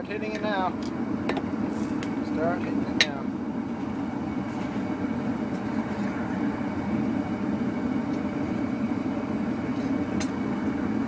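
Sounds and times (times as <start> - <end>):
gas forge burner running: 0.0 - 11.0.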